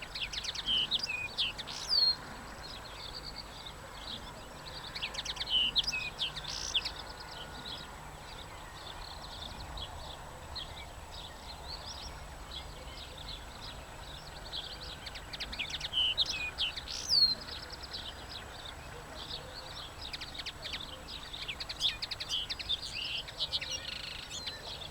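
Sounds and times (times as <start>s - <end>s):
songbird chirping and twittering: 0.0s - 24.9s.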